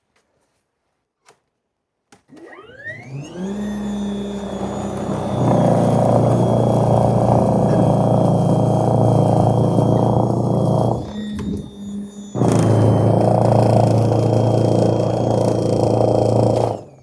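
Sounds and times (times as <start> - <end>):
electric motor whine: 2.6 - 17.0.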